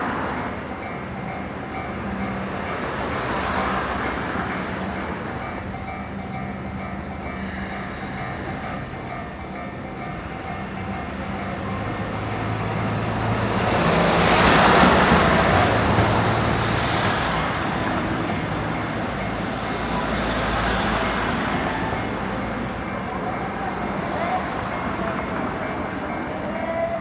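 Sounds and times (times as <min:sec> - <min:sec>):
electric train wheels on track: 0:00.0 - 0:27.0.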